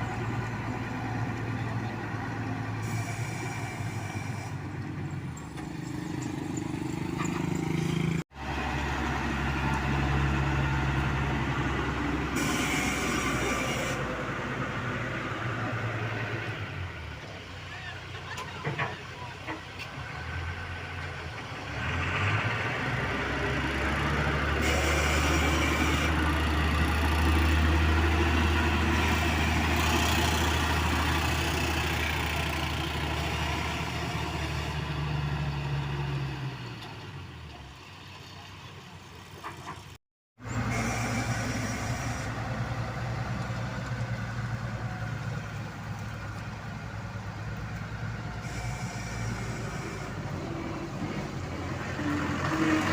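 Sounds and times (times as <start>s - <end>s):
diesel engines running: 0.0s - 52.9s.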